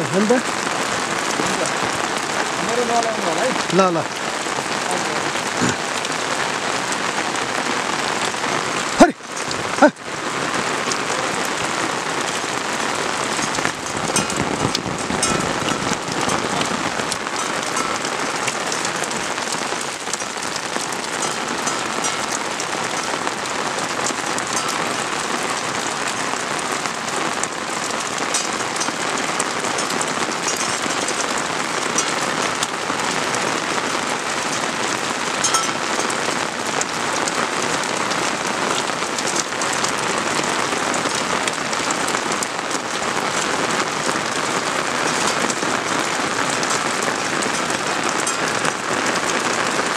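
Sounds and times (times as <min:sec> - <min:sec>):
raindrops ticking on surfaces: 0:00.0 - 0:49.9
steady rain falling: 0:00.0 - 0:49.9.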